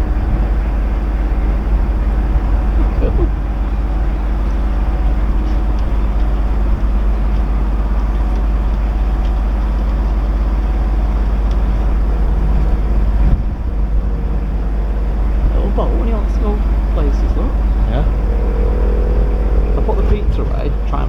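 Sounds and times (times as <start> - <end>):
boat diesel engine running: 0.0 - 21.0
bump: 0.0 - 21.0.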